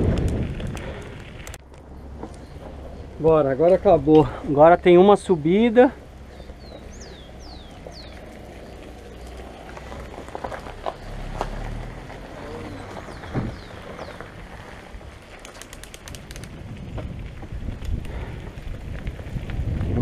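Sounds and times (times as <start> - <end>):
bike tyres on dirt trail: 0.0 - 20.0.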